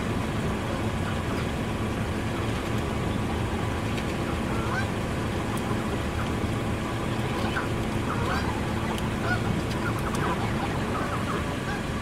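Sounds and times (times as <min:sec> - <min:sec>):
steady low rumble: 0:00.0 - 0:12.0
geese calling: 0:00.6 - 0:12.0.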